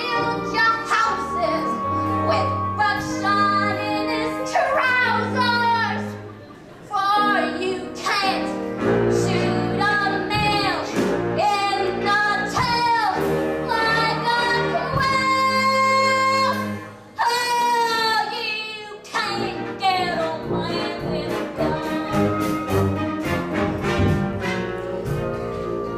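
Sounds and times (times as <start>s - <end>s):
woman singing: 0.0s - 6.2s, 6.9s - 22.9s
instrumental accompaniment: 0.0s - 17.2s, 19.2s - 25.9s.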